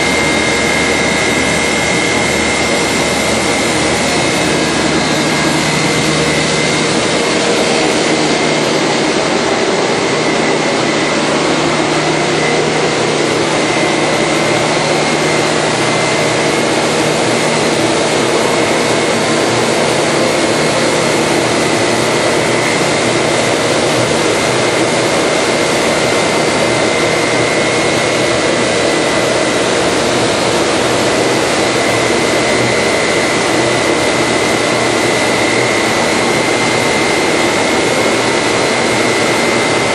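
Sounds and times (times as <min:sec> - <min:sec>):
woodworking machine whining: 0:00.0 - 0:39.9.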